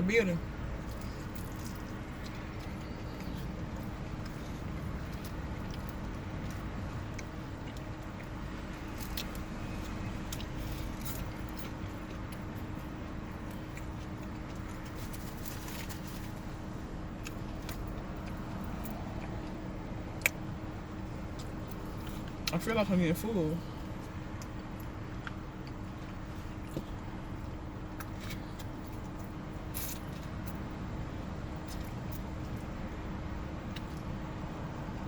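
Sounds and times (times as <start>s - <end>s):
steady low hum: 0.0s - 35.0s
person chewing food: 0.7s - 22.5s, 23.7s - 32.8s.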